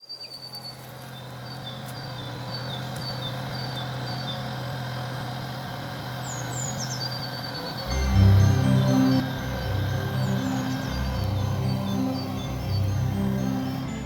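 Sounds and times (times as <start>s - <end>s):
engine humming: 2.0s - 14.0s.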